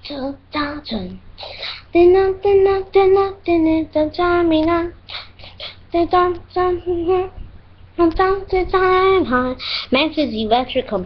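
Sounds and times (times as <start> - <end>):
child singing a wordless tune: 0.0 - 7.4, 8.0 - 11.0.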